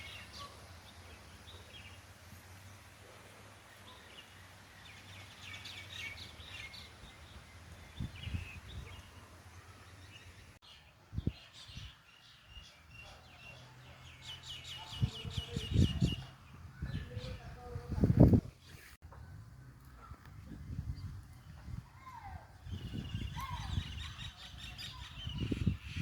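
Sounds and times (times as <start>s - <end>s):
small birds chirping: 0.0s - 19.3s, 19.9s - 26.0s.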